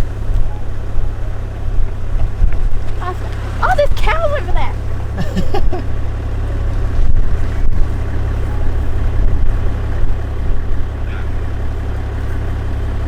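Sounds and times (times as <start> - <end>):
engine and road drone in cabin: 0.0 - 13.0.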